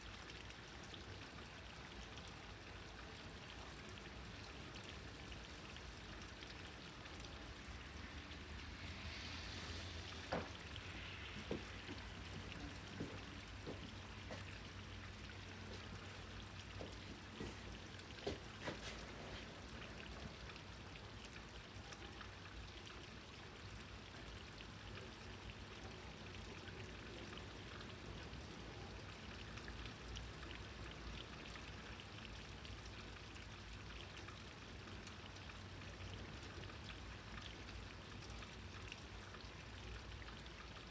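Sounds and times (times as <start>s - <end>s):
rain falling: 0.0s - 40.9s
raindrop drips and taps: 0.2s - 40.9s.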